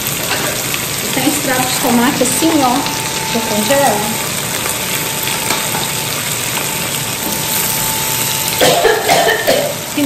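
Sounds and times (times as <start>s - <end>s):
sausage and onion sizzling: 0.0s - 10.0s.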